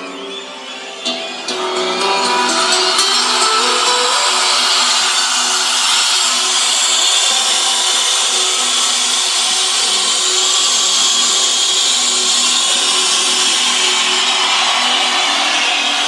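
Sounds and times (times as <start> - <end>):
music from car audio system: 0.0 - 16.0.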